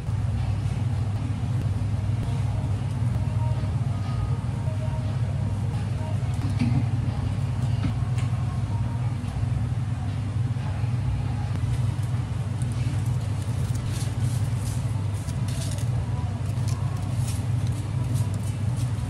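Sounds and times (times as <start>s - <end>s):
low hum of kitchen equipment: 0.0s - 19.0s.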